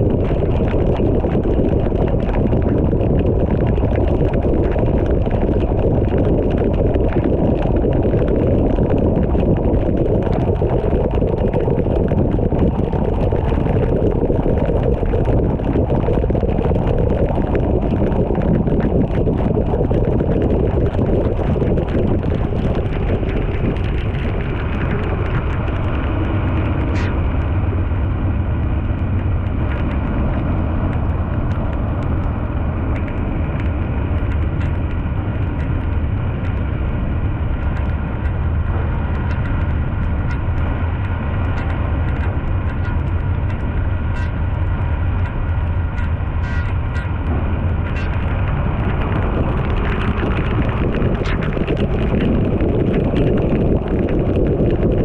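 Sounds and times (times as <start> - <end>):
engine rumble: 0.0 - 55.0.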